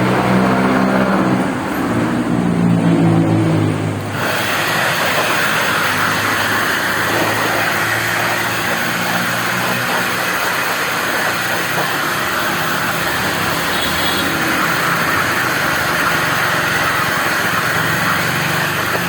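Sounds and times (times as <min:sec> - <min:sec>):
electric blower rushing air: 0:00.0 - 0:19.0.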